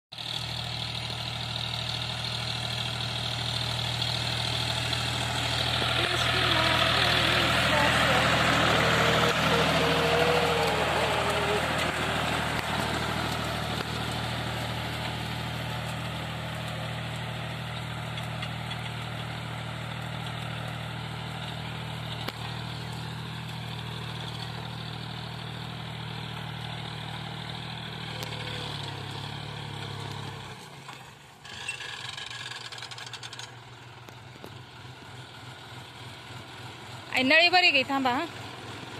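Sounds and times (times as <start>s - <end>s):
tractor engine running: 0.1s - 38.9s.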